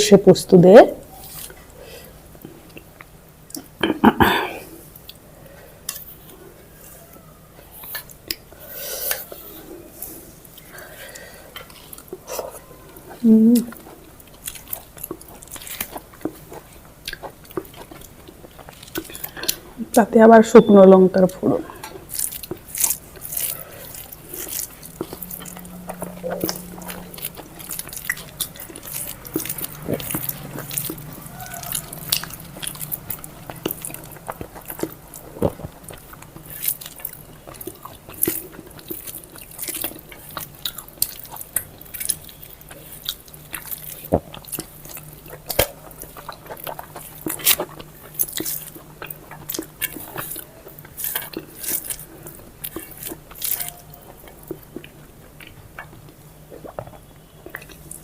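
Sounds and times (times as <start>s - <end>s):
faint low hum: 0.0s - 58.0s
person chewing food: 1.0s - 20.0s, 21.2s - 58.0s.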